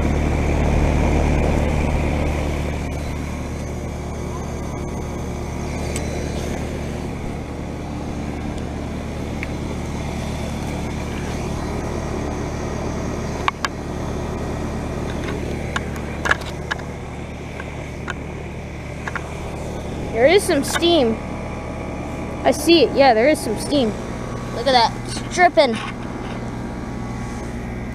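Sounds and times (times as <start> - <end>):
heat pump unit humming: 0.0 - 27.9.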